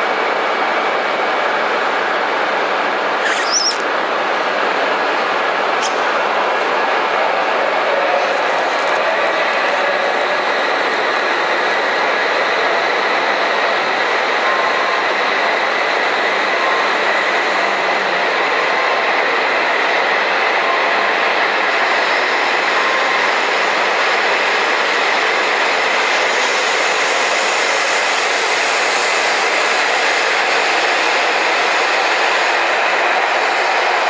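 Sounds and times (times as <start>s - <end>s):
train wheels and running noise: 0.0s - 34.0s.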